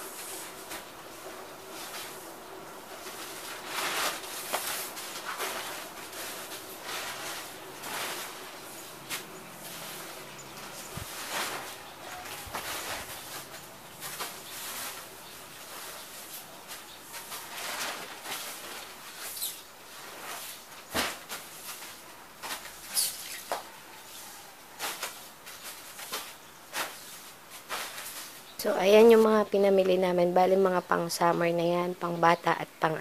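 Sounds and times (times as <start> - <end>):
broom sweeping a floor: 0.0 - 29.4
plastic bags rustling: 0.0 - 30.0.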